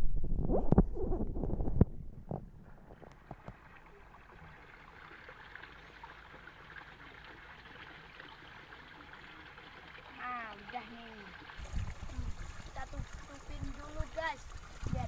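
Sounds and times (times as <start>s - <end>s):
water trickling in a ditch: 1.4s - 15.0s.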